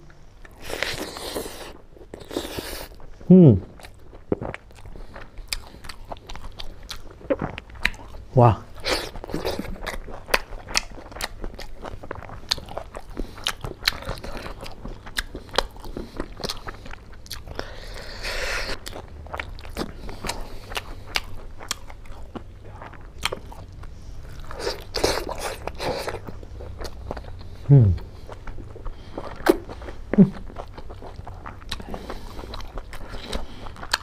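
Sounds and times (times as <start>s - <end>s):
man chewing food: 0.0s - 34.0s.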